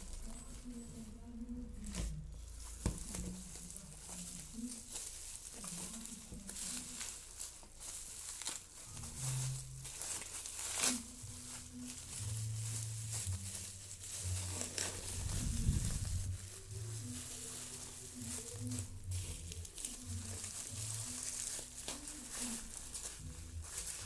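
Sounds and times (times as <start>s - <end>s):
wrapping crinkling and rustling: 0.0s - 24.0s
packaging tearing: 1.8s - 24.0s.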